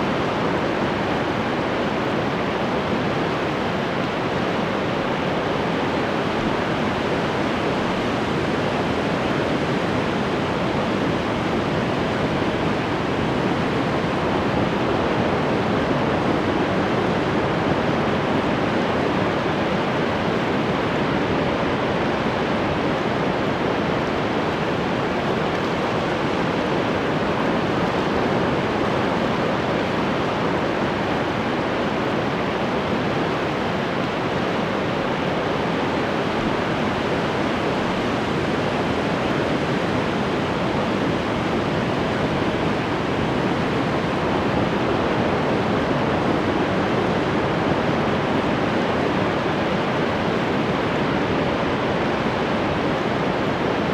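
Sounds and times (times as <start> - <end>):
ocean surf washing ashore: 0.0 - 53.9.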